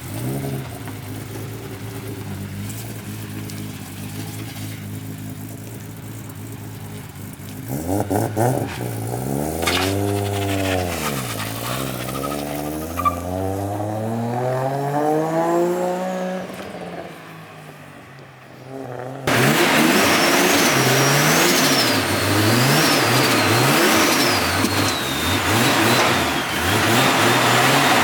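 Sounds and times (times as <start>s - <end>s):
car engine revving: 0.0s - 17.5s, 18.6s - 28.0s.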